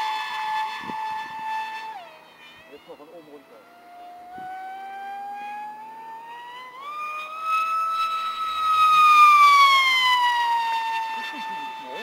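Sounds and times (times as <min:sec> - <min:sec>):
model jet motor whining past: 0:00.0 - 0:12.0.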